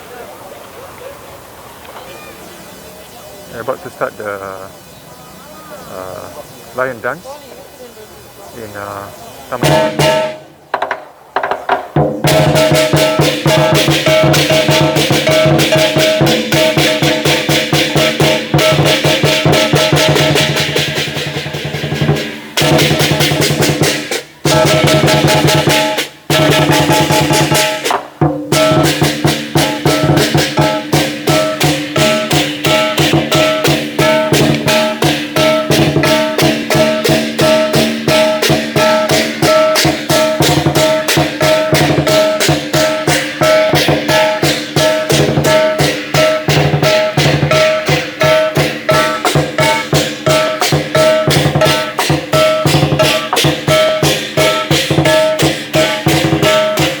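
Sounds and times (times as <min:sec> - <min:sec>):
drum beating: 0:08.6 - 0:57.0
clashing cymbals: 0:09.6 - 0:10.5, 0:12.0 - 0:57.0.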